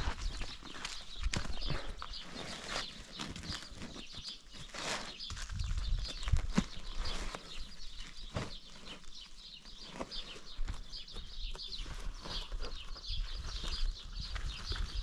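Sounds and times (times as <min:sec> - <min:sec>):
birds chirping: 0:00.0 - 0:15.0
knocks and rustles of bundles: 0:00.0 - 0:15.0.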